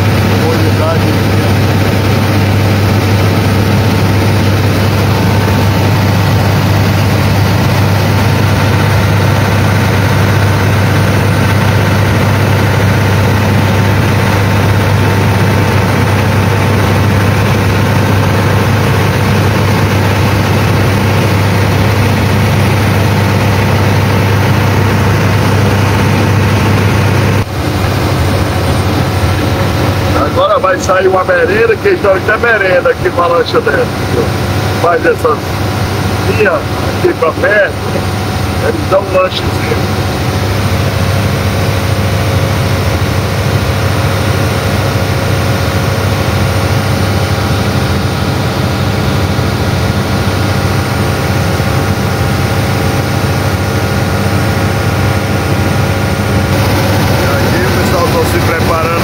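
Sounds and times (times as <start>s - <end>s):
boat engine droning: 0.0s - 59.0s
water rushing along hull: 0.0s - 59.0s.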